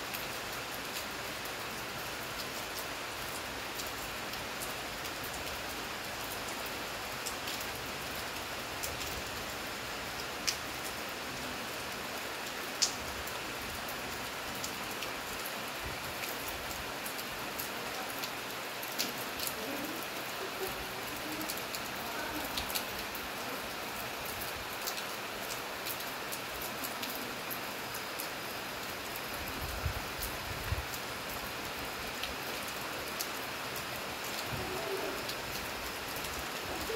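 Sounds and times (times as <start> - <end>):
rain hissing: 0.0 - 36.9.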